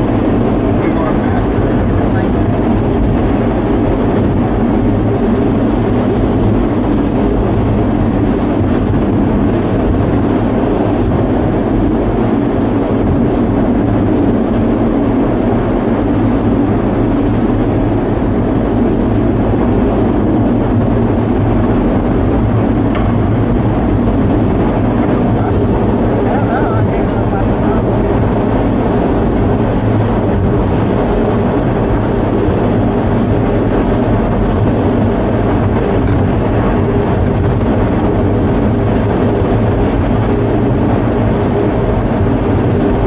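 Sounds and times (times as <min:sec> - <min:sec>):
low steady hum: 0:00.0 - 0:43.0
tram mechanism running noise: 0:00.0 - 0:43.0.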